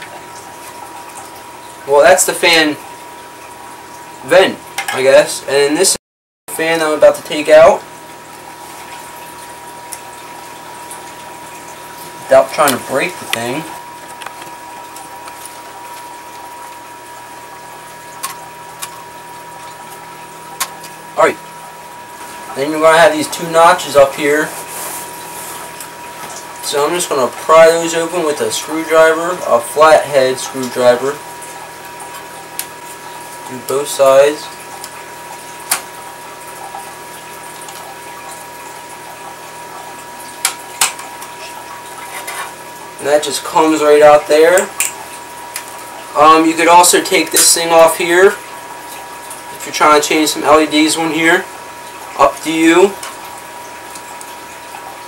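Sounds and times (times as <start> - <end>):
faint high hum: 0.0 - 55.0.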